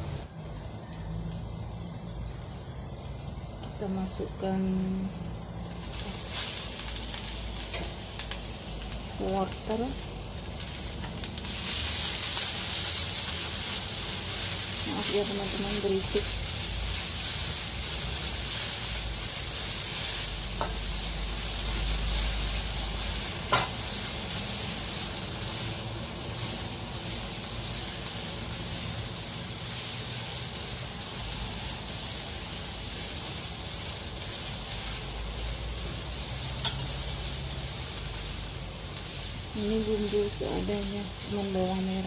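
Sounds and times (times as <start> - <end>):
vegetables sizzling in hot oil: 0.0 - 42.0.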